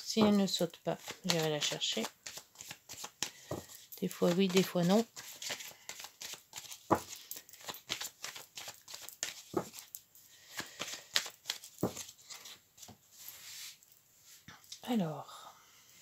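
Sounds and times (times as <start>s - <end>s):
cards being shuffled by hand: 0.0s - 13.8s.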